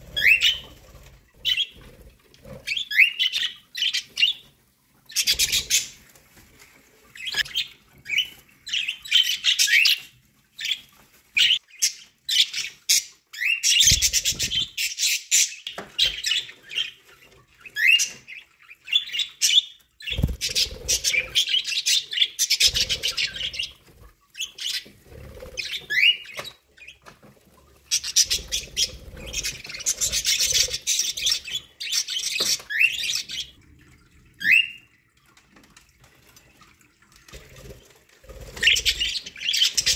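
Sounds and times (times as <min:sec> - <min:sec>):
budgerigars chirping and warbling: 0:00.0 - 0:01.9, 0:02.5 - 0:06.0, 0:07.2 - 0:27.1, 0:27.9 - 0:33.6, 0:38.5 - 0:39.9.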